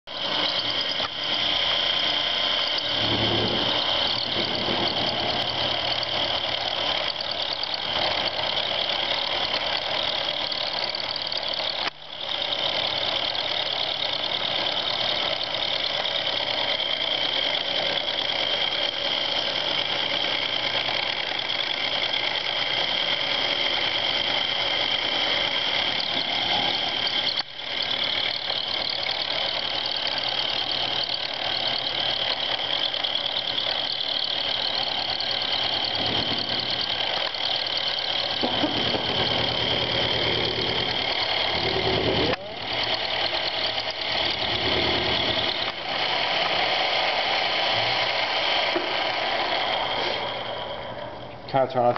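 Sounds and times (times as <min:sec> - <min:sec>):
milling machine whine: 0:00.1 - 0:51.9.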